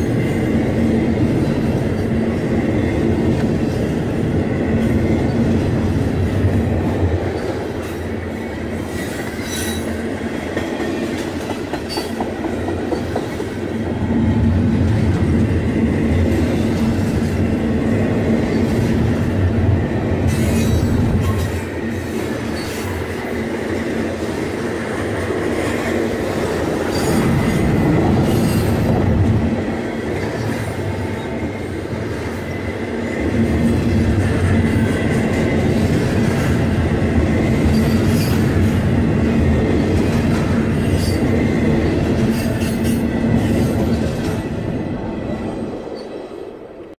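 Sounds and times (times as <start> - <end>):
train clanks: 0.0 - 46.9
train wheels rumbling on rail: 0.0 - 46.9.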